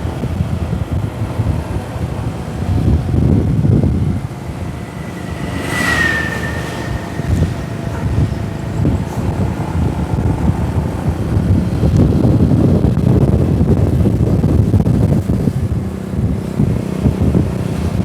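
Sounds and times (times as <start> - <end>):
vehicle engine and road rumble: 0.0 - 18.0
wind buffeting microphone: 0.0 - 18.0.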